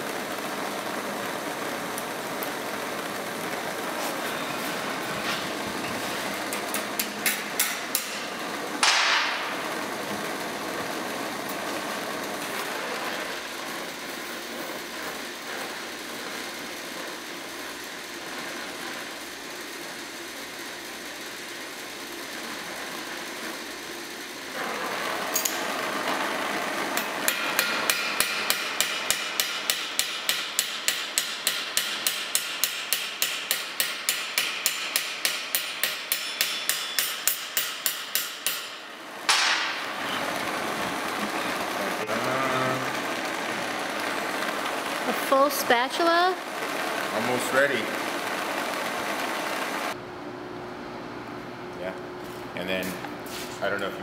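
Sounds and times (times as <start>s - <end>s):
gas torch hissing: 0.0s - 50.0s.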